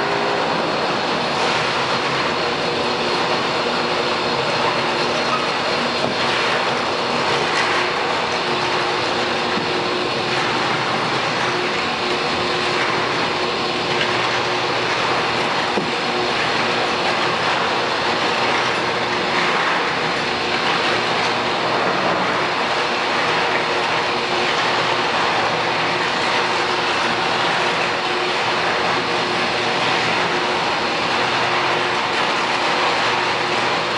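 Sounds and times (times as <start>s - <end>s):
molten steel pouring rush: 0.0s - 33.9s.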